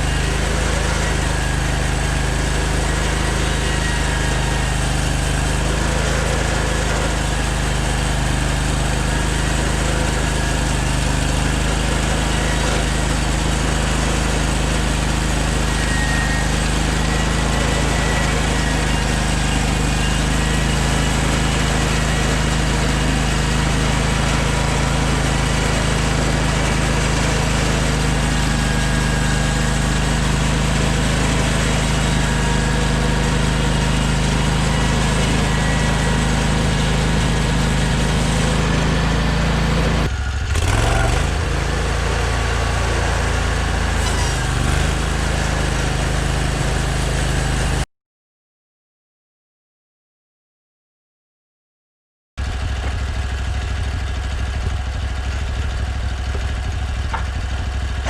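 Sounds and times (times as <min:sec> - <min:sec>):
engine running steadily: 0:00.0 - 0:47.8, 0:52.4 - 0:58.0.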